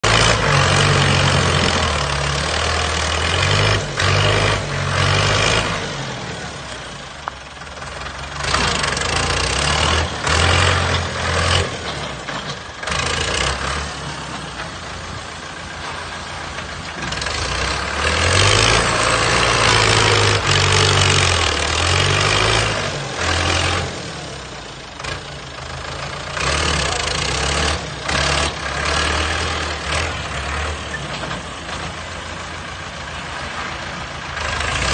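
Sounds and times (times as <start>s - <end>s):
heavy machinery diesel engines: 0.0s - 34.9s.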